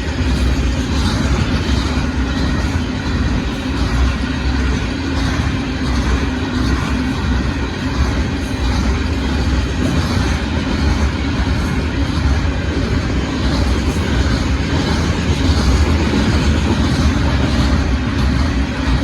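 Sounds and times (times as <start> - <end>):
train cars rumbling on rails: 0.0 - 19.0.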